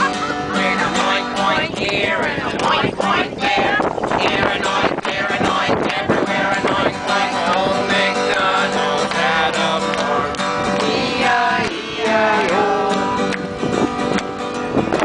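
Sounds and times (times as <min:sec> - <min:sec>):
person singing: 0:00.0 - 0:13.3
strummed acoustic guitar: 0:00.0 - 0:15.0.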